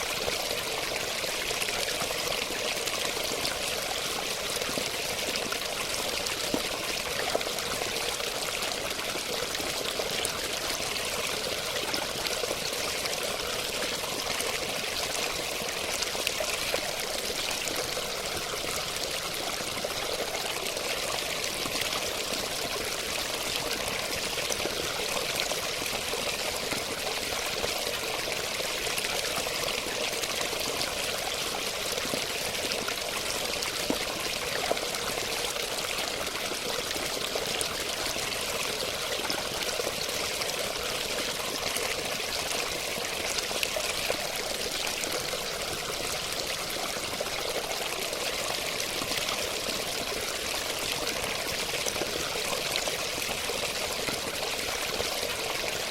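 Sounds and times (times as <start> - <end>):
running water flowing: 0.0 - 55.9.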